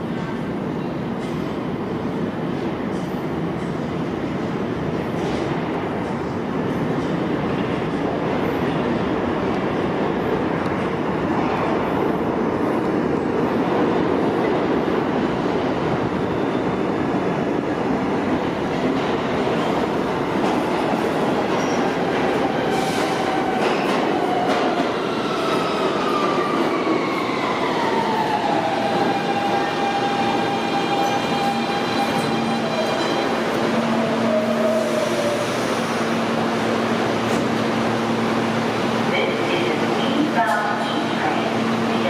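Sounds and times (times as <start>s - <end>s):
subway train rumbling and rattling: 0.0s - 42.0s.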